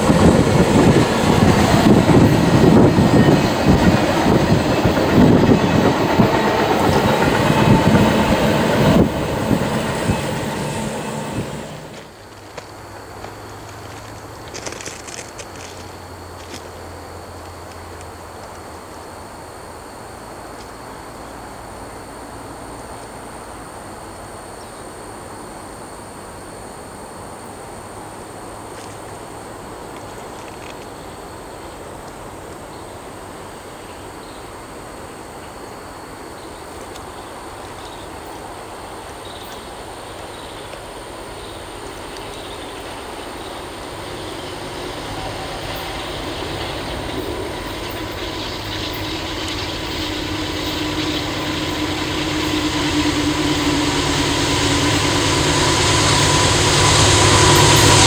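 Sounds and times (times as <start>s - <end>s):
freight train rumbling: 0.0s - 24.3s, 27.6s - 58.0s.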